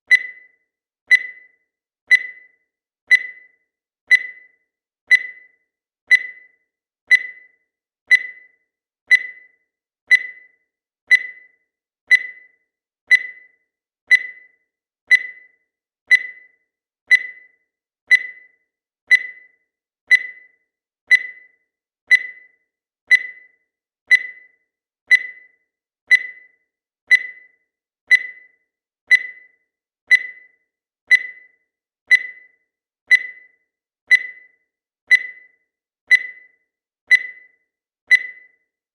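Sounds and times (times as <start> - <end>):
digital timer beeping: 0.0 - 38.9.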